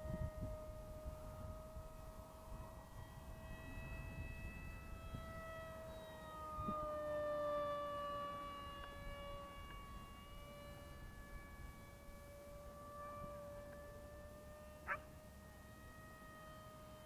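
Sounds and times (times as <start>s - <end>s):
wind rumble on microphone: 0.0s - 15.0s
model jet motor whine: 0.0s - 17.0s.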